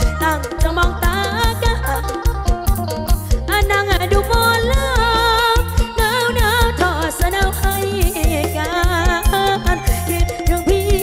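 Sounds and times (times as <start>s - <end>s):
band music with fast beat: 0.0s - 11.0s.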